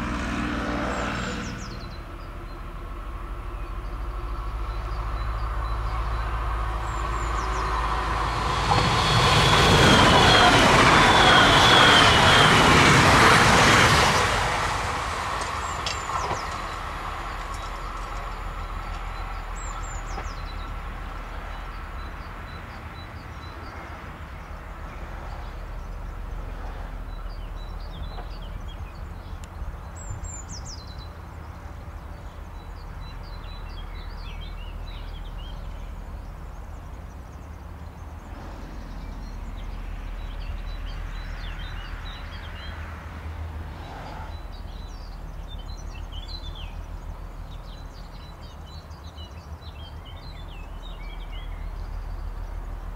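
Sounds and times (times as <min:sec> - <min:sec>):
distant electric train: 0:00.0 - 0:52.9
songbirds chirping: 0:00.3 - 0:52.9.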